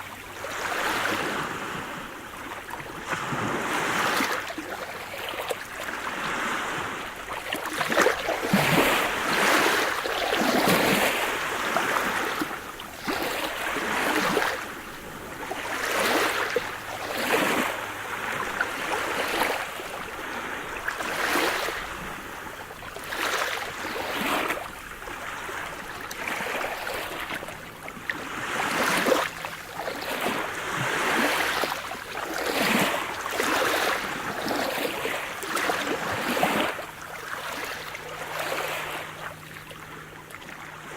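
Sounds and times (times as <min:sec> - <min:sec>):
waves breaking and washing in: 0:00.0 - 0:40.9.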